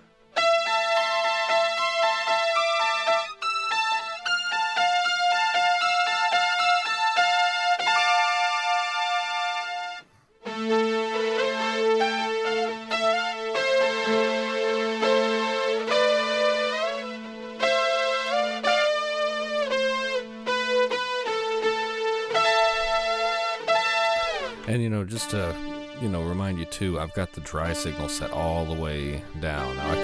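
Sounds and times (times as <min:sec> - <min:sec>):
synth-like electric guitar chords: 0:00.0 - 0:30.0.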